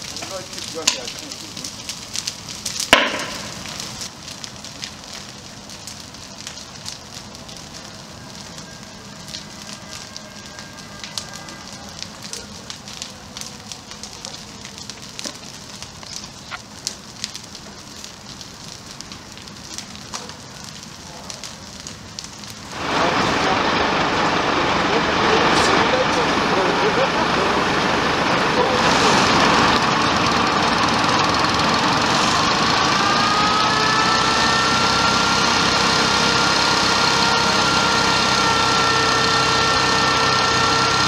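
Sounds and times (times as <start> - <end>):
loud steady noise: 0.0 - 4.2, 7.0 - 16.6, 21.0 - 41.0
fire crackling and popping: 0.0 - 41.0
rushing flame: 0.0 - 41.0.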